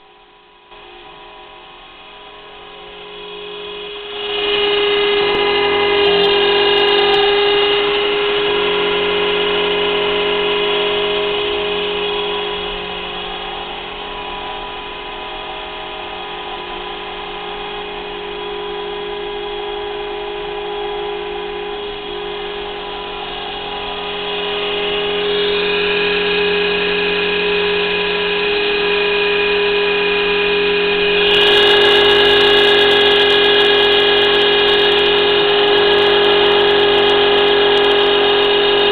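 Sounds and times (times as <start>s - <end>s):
cnc spindle high-pitched whine: 0.0s - 38.9s.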